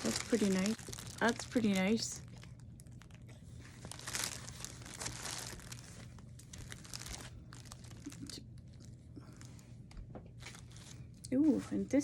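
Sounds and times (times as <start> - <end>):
plastic packaging crinkling: 0.0 - 9.6, 10.4 - 11.2.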